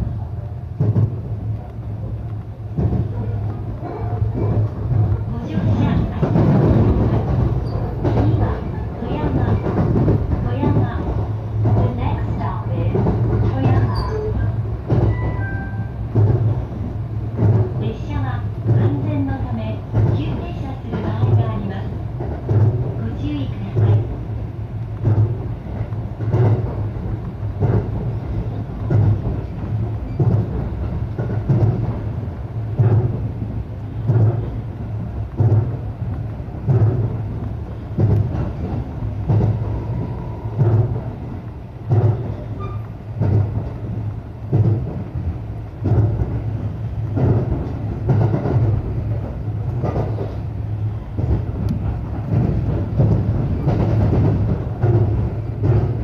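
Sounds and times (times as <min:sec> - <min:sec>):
train low rumble: 0:00.0 - 0:56.0
wheels clacking over rail joints: 0:00.7 - 0:56.0.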